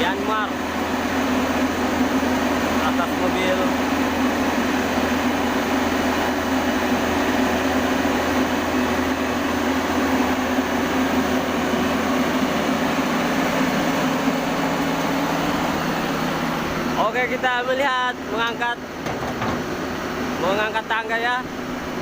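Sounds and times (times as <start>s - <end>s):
large engine running: 0.0s - 22.0s.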